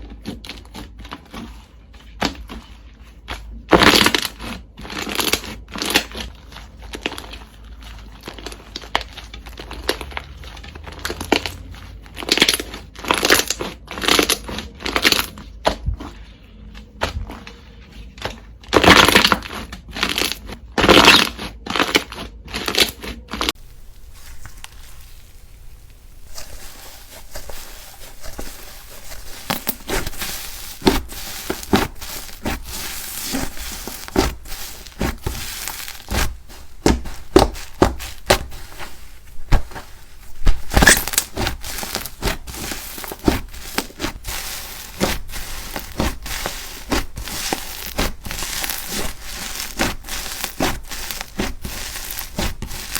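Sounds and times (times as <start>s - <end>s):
slime crackling and popping: 3.2s - 15.8s, 18.2s - 52.9s.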